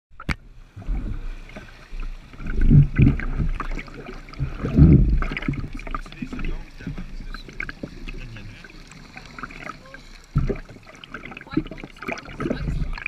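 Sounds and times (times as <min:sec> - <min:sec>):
water lapping and sloshing: 0:00.1 - 0:13.0.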